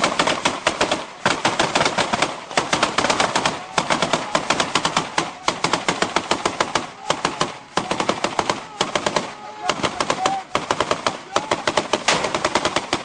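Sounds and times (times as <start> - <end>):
automatic gunfire: 0.0 - 13.0.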